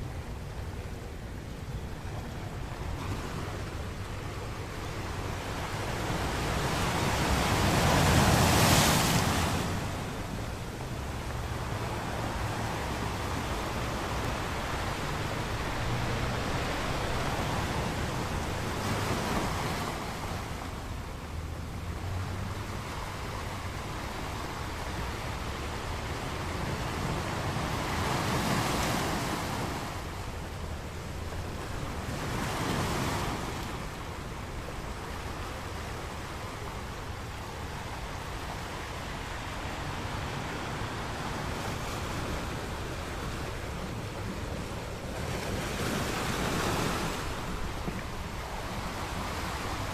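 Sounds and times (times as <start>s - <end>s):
ocean waves breaking on beach: 0.0s - 49.9s.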